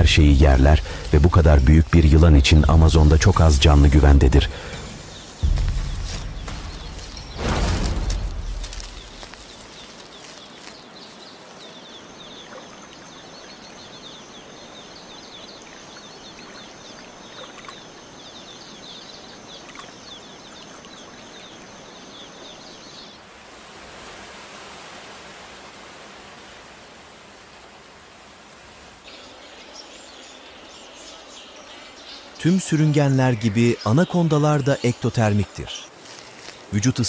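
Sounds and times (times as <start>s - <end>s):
steady rainforest hiss: 0.0s - 37.0s.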